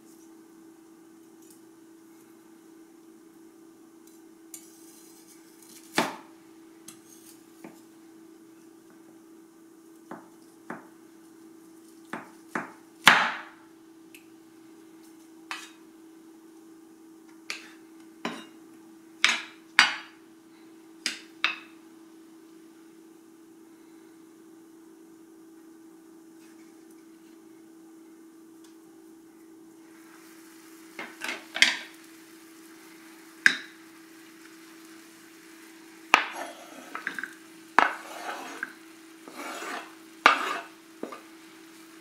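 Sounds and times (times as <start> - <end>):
steady hum: 0.0 - 42.0.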